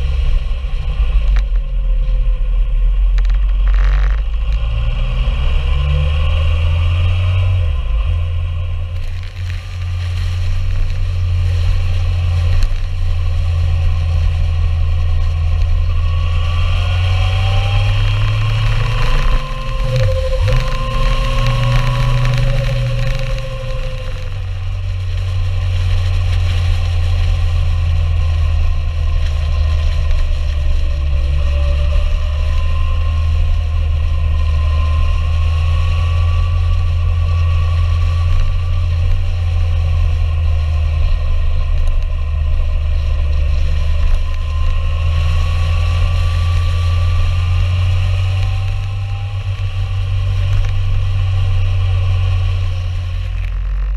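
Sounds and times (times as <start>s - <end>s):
wind rumble: 0.0s - 53.9s
motorcycle engine revving: 3.0s - 53.9s.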